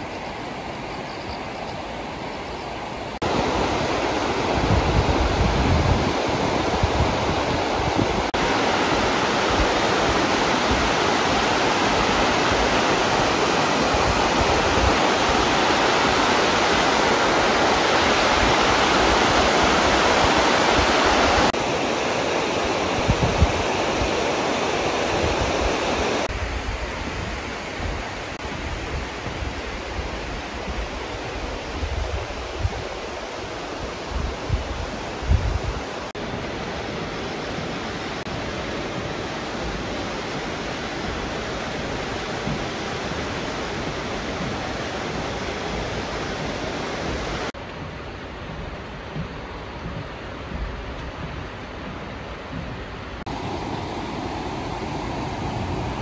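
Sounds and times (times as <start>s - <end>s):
wind buffeting microphone: 0.0s - 21.7s, 22.4s - 56.0s
river rushing over stones: 0.0s - 56.0s.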